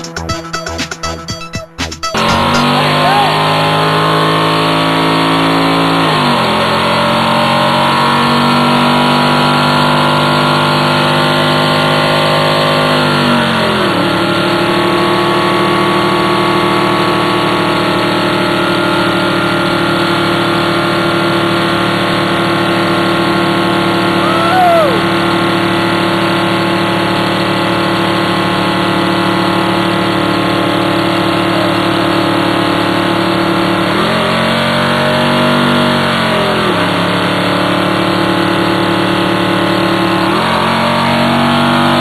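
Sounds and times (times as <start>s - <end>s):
pickup engine at high revs: 2.2s - 42.0s.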